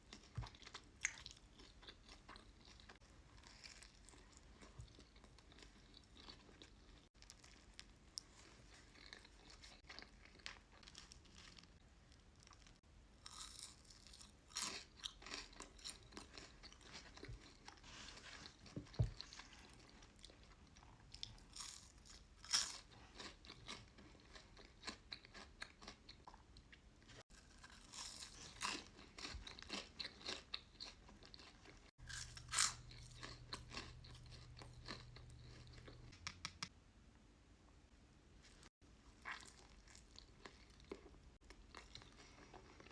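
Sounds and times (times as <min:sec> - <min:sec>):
chewing and crunching food: 0:00.0 - 0:36.6, 0:38.4 - 0:42.9.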